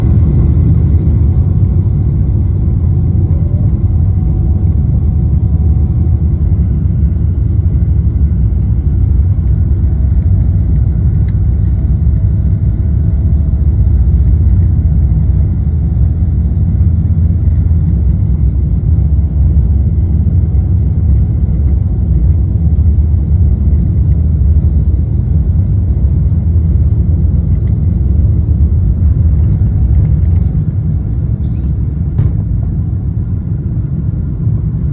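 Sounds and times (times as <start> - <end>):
jet engines and airflow rumble: 0.0 - 34.9.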